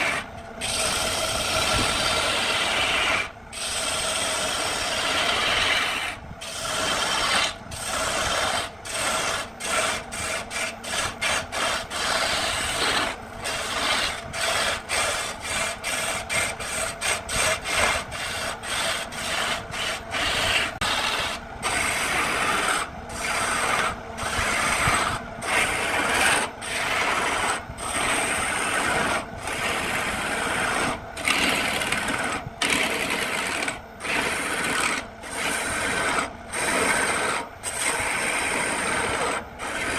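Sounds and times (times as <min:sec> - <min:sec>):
lathe chisel scraping wood: 0:00.0 - 0:39.9.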